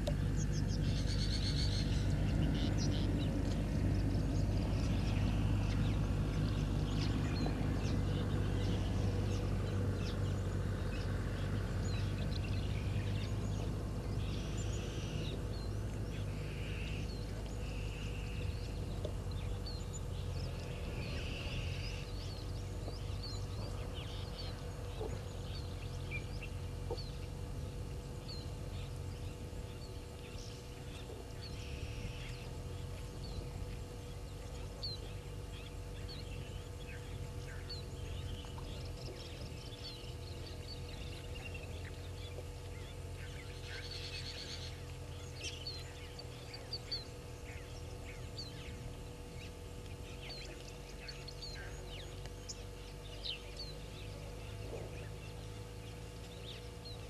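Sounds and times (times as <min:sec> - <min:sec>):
longer bird calls: 0:00.0 - 0:57.0
small birds chirping: 0:00.0 - 0:57.0
steady low background noise: 0:00.0 - 0:57.0.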